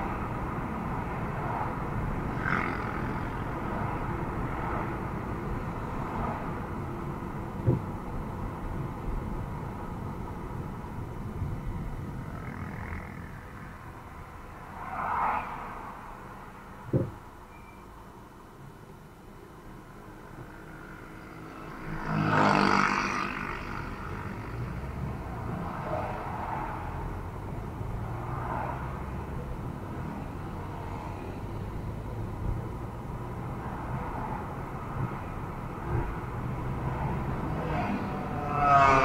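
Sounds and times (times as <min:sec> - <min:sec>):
car cabin road and engine noise: 0:00.0 - 0:39.0.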